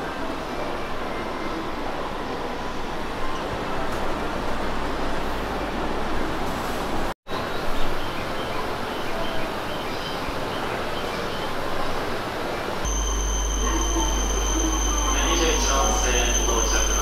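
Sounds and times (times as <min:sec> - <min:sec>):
railway platform hubbub: 0:00.0 - 0:17.0.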